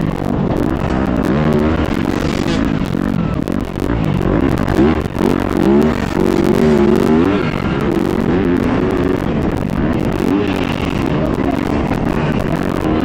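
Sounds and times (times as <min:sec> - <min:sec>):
motocross bike engine revving: 0:00.0 - 0:13.0
wind on helmet camera: 0:00.0 - 0:13.0.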